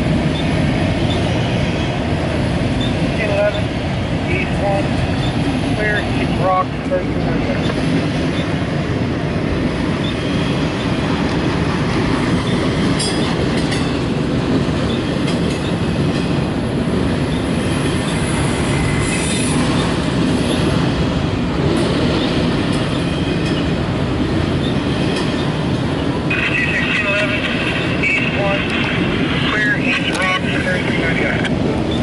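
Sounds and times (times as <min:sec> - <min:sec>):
steel wheels on rail: 0:00.0 - 0:32.0.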